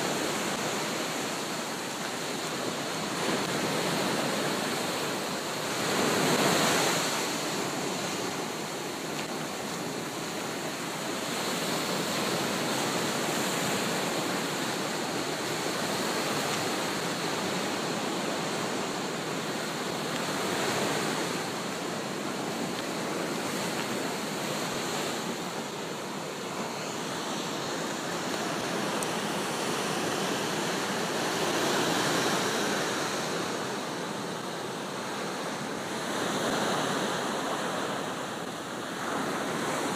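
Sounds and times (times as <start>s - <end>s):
small waves washing on beach: 0.0s - 39.9s.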